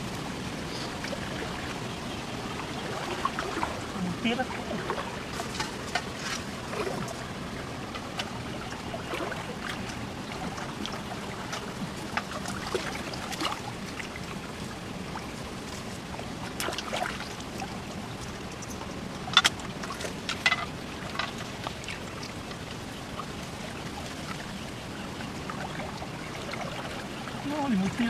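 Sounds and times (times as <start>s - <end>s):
water sloshing and splashing: 0.0s - 28.0s.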